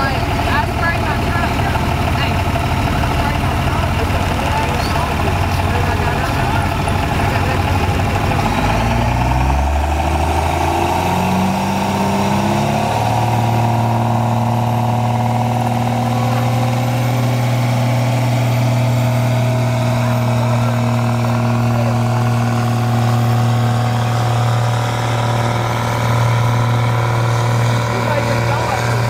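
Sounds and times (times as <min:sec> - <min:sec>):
diesel truck engine under load: 0:00.0 - 0:29.0.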